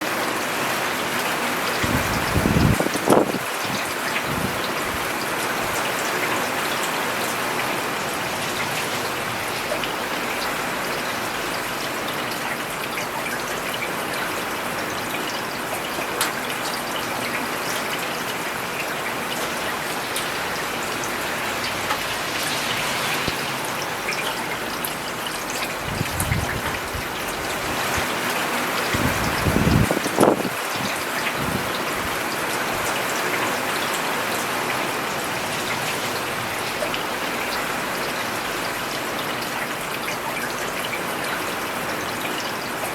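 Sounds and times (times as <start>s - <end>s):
rain falling on road: 0.0s - 42.9s.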